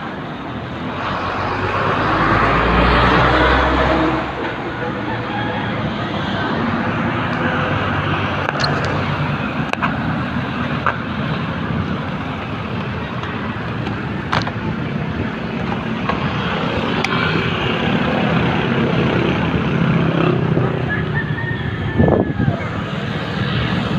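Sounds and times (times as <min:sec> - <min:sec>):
road and wind rushing: 0:00.0 - 0:23.9.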